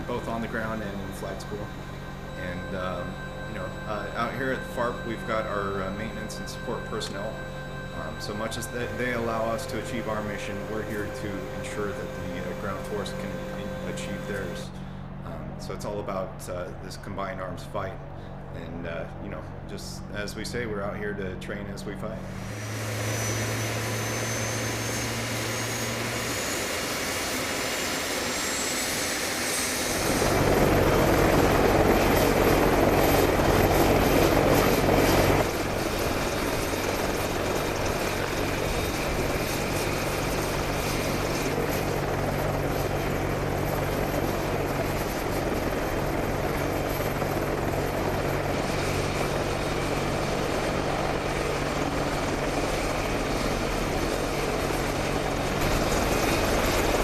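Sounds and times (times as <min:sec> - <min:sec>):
helicopter rotors beating: 0:00.0 - 0:16.6, 0:19.2 - 0:57.0
high turbine whine: 0:00.0 - 0:57.0.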